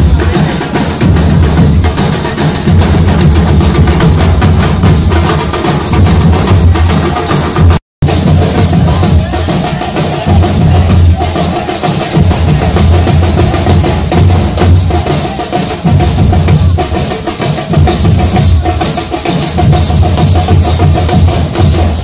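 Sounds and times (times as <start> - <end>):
barrel drums booming: 0.0 - 22.0
snare-like drums rattling: 0.0 - 22.0.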